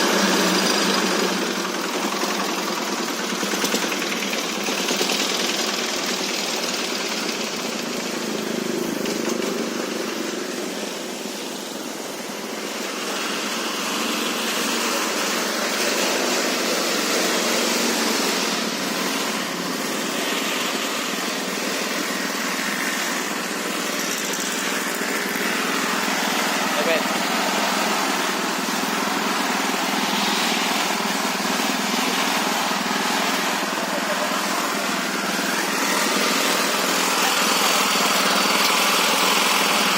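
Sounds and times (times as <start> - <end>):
diesel-driven pellet mill running: 0.0 - 39.9.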